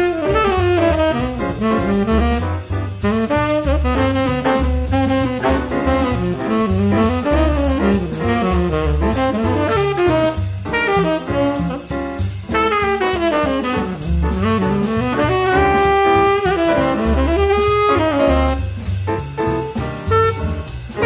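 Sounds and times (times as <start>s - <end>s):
saxophone melody: 0.0s - 18.9s, 19.7s - 21.0s
bass line: 0.0s - 21.0s
brass: 0.0s - 21.0s
drum kit beat: 0.0s - 21.0s.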